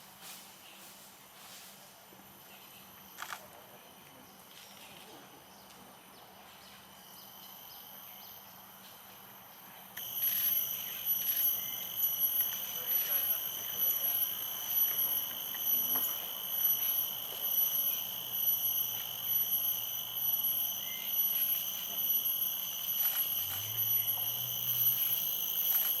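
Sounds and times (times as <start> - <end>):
insect chorus shrilling: 2.3 - 26.0.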